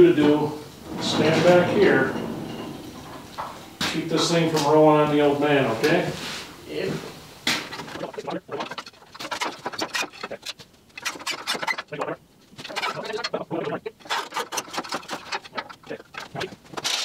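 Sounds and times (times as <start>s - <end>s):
metal clanks and scrapes: 0.2s - 4.8s, 7.6s - 17.0s.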